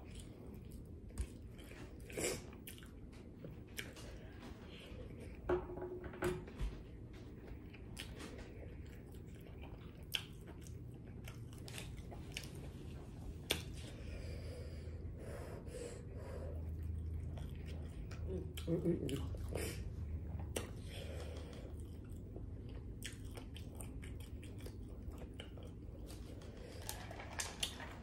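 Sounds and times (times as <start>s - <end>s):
person chewing food: 0.0s - 5.5s, 6.9s - 15.1s, 16.0s - 28.0s.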